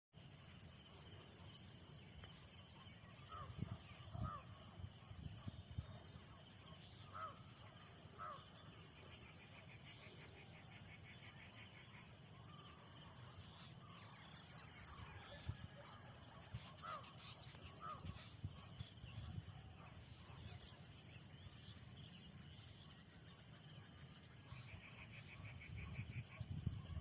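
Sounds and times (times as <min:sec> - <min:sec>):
faint birds calling: 0:00.4 - 0:27.0.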